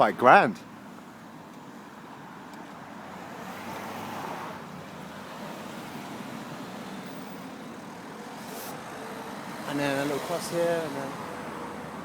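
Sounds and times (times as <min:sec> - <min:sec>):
steady traffic hum: 0:00.0 - 0:12.0
car passing: 0:02.3 - 0:12.0.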